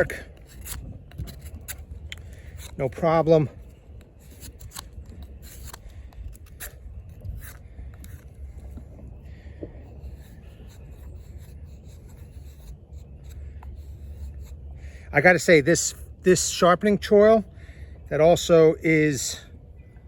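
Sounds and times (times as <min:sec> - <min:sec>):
knife scraping bark: 0:00.0 - 0:17.1.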